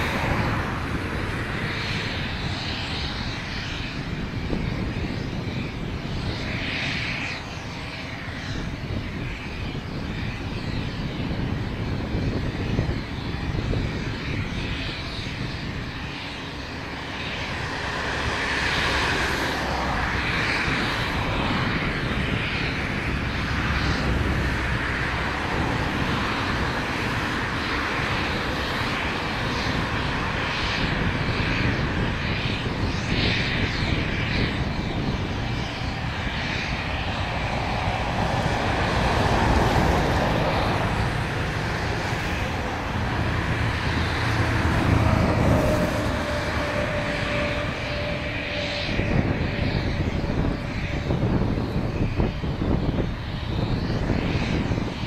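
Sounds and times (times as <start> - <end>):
aircraft turbine engine: 0.0 - 55.0.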